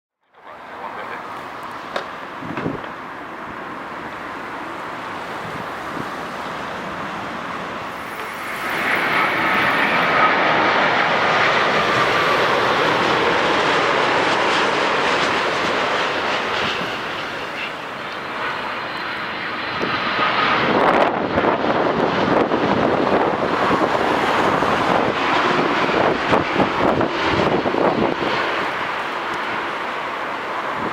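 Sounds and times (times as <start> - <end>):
jet engines rushing with whine: 0.3 - 30.9.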